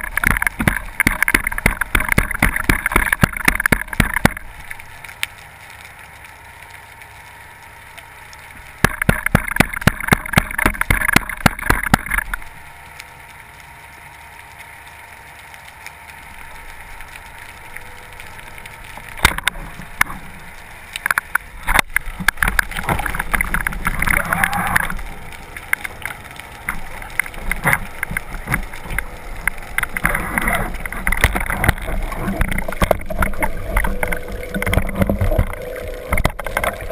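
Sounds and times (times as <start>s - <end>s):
gurgling water: 0.0s - 36.9s
rapid underwater clicking: 0.0s - 36.9s.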